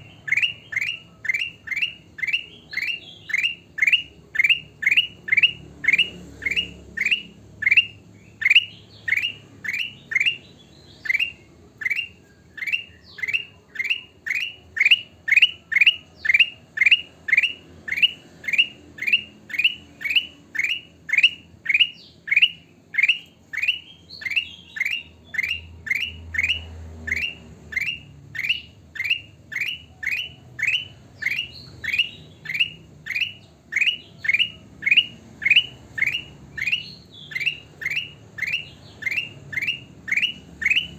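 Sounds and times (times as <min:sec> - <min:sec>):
bulbul calling: 0:00.0 - 0:40.9.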